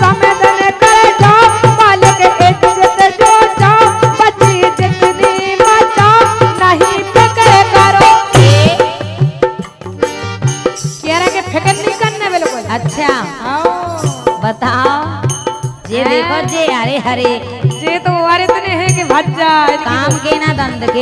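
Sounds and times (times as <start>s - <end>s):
fast hand-drum rhythm: 0.0s - 21.0s.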